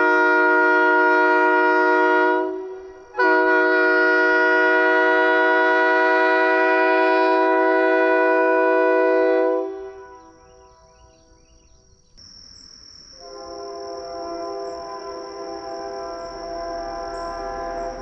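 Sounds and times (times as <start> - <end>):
train horn chord: 0.0 - 11.5, 13.2 - 18.0.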